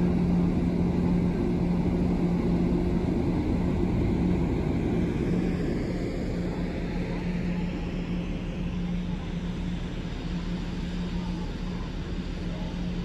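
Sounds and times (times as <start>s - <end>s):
ship engines droning: 0.0s - 13.0s
water churning alongside hull: 0.0s - 13.0s.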